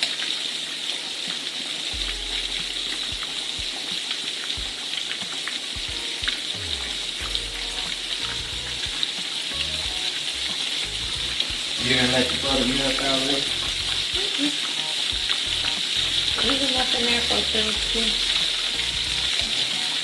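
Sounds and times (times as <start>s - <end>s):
chicken frying in hot oil: 0.0s - 20.0s.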